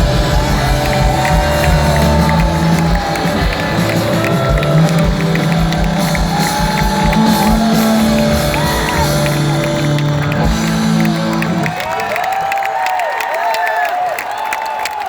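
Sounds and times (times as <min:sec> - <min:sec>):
live rock band playing: 0:00.0 - 0:12.4
crowd cheering and whistling: 0:00.0 - 0:15.0.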